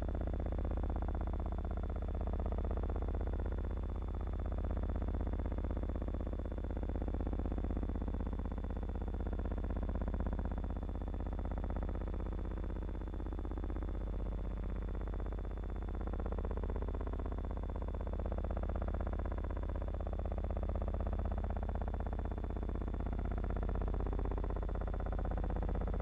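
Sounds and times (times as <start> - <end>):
low hum and buzz: 0.0 - 26.0.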